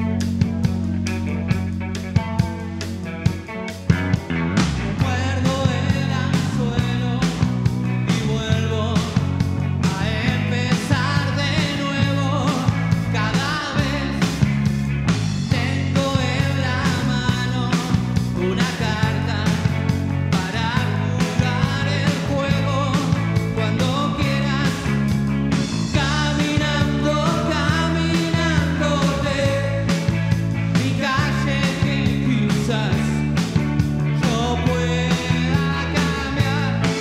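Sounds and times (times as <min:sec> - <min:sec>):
rock band playing live: 0:00.0 - 0:37.0.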